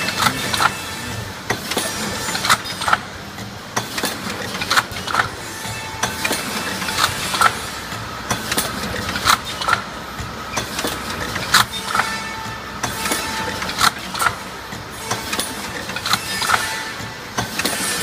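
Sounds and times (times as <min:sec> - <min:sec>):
machine clicks and knocks: 0:00.0 - 0:18.0
steady mechanical hum: 0:00.0 - 0:18.0.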